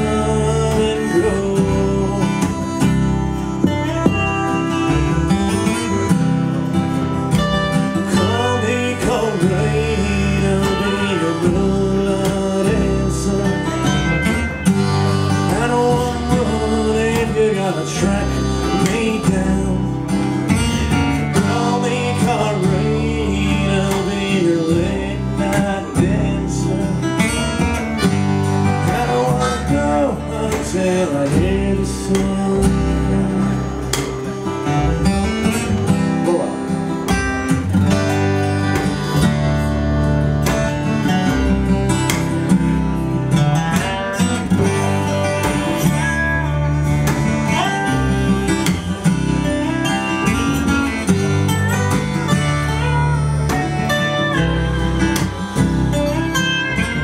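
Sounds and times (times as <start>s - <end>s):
acoustic guitar: 0.0s - 57.0s
double bass: 0.0s - 57.0s
harmonica: 0.0s - 57.0s
slide guitar: 0.0s - 57.0s.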